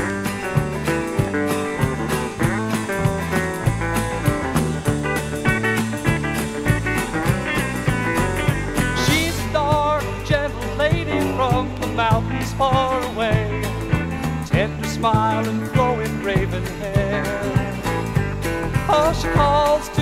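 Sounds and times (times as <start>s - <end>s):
ballad music with steady beat: 0.0s - 20.0s.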